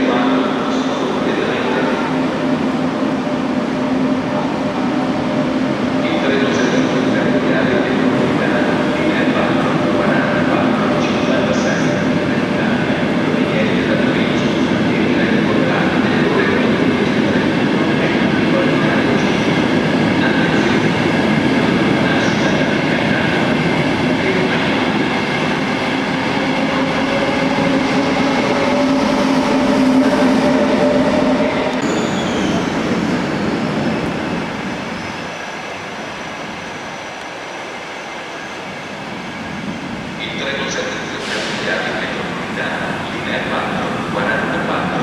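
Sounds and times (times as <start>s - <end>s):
train wheels rumbling on rail: 0.0s - 37.5s, 39.1s - 45.0s.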